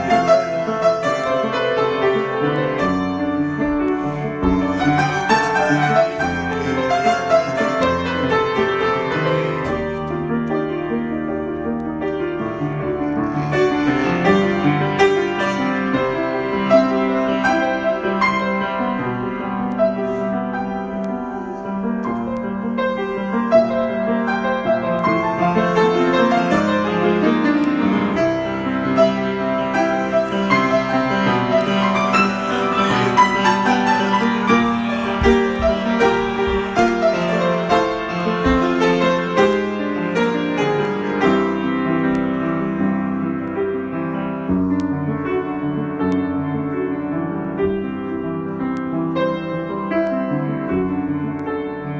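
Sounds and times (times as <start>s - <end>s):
solo piano: 0.0s - 51.9s.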